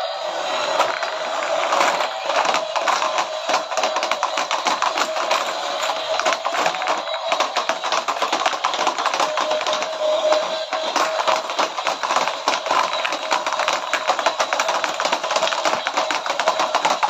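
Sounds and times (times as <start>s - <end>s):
toy motor whine: 0.0s - 17.0s
plastic toy wheels clattering: 0.5s - 17.0s.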